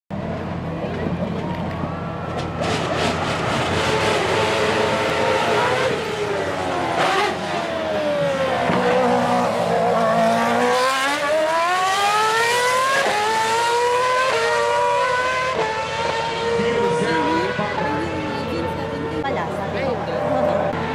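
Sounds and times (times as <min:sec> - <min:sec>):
race car engine at high revs: 0:00.2 - 0:20.9.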